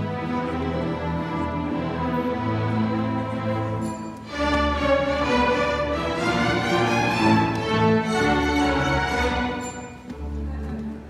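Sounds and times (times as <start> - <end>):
orchestra playing string chords: 0.0 - 11.0.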